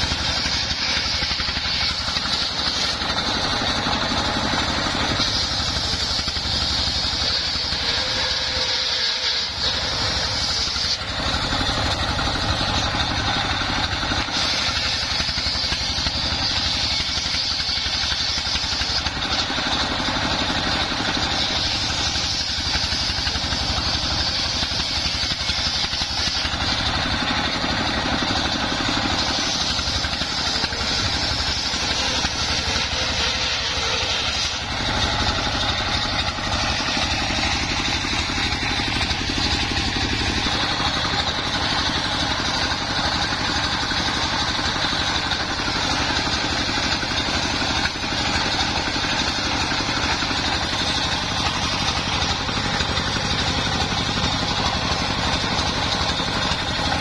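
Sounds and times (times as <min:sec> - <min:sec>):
diesel engine running under load: 0:00.0 - 0:57.0
saw blade cutting hiss: 0:00.0 - 0:57.0.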